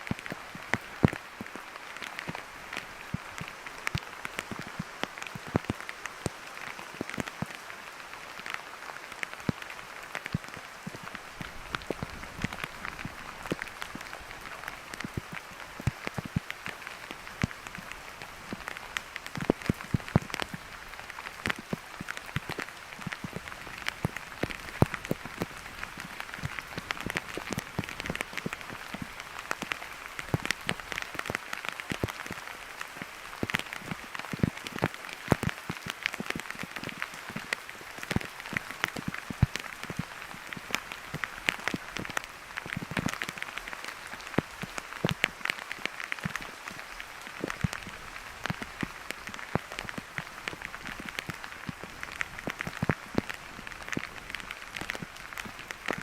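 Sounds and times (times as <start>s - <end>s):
rain hissing: 0.0s - 56.0s
raindrops ticking close by: 0.0s - 56.0s.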